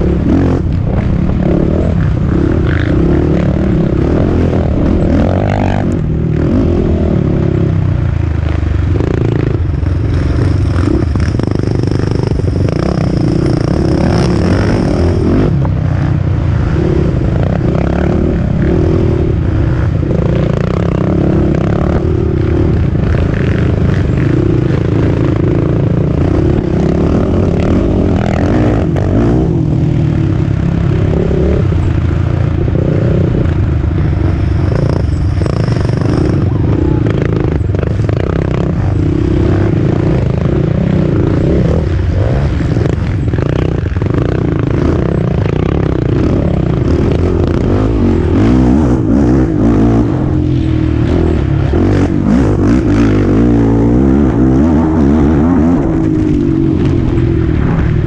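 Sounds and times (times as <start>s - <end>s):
another quad engine: 0.0s - 58.0s
quad engine revving: 8.6s - 31.8s, 34.2s - 57.9s.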